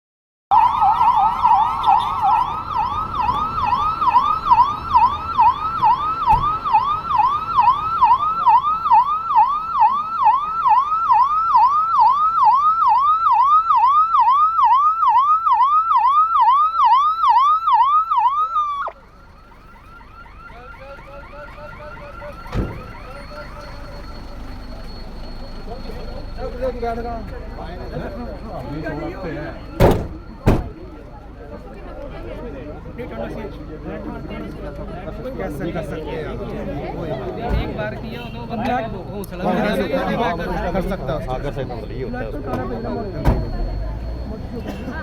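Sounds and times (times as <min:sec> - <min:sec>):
siren yelping: 0:00.5 - 0:37.8, 0:38.7 - 0:45.0
faint distant siren: 0:00.5 - 0:45.0.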